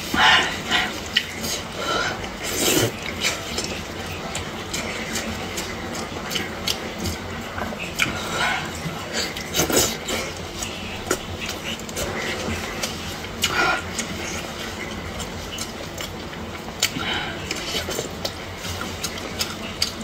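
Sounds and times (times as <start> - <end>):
smacking and chewing: 0.0 - 20.0.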